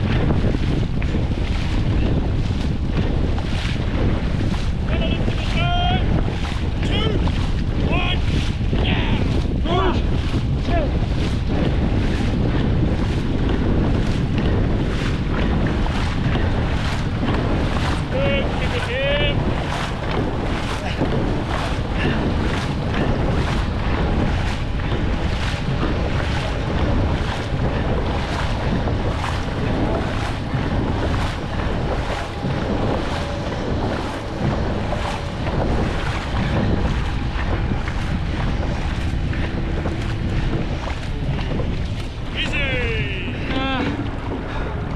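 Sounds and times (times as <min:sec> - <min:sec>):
water rushing and splashing: 0:00.0 - 0:44.9
wind buffeting microphone: 0:00.0 - 0:44.9.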